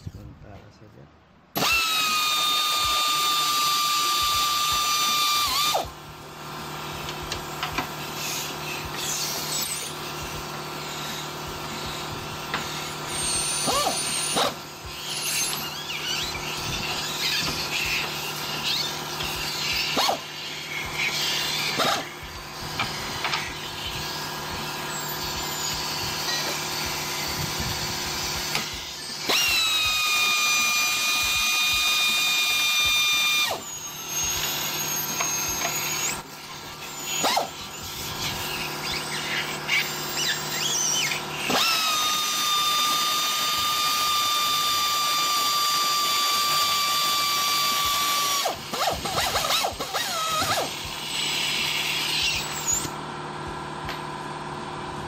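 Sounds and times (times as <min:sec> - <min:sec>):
pneumatic air ratchet whining: 0:01.5 - 0:53.1.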